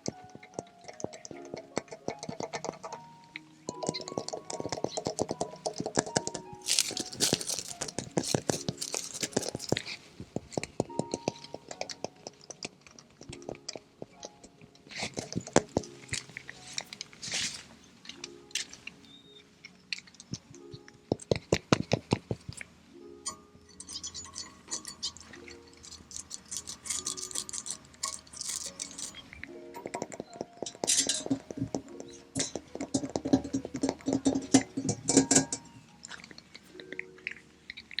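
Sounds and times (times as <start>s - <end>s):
soft background music: 0.0s - 38.0s.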